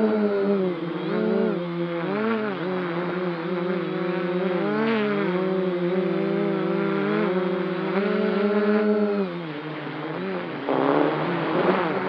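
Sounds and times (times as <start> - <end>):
drone propellers humming: 0.0 - 12.0.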